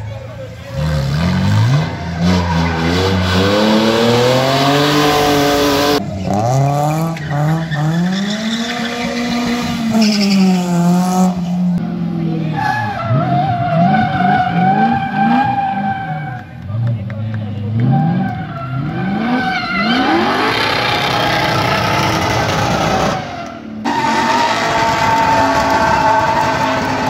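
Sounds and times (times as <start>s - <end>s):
car engine revving: 0.4s - 16.8s, 17.4s - 27.0s.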